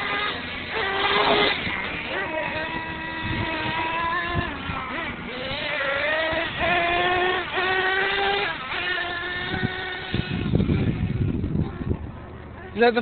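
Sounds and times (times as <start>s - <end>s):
toy truck motor whine: 0.0s - 12.0s.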